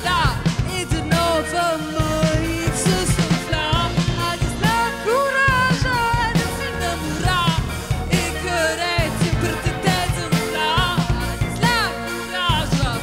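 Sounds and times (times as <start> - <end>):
backing music with heavy bass: 0.0 - 13.0
woman singing into microphone: 0.0 - 13.0.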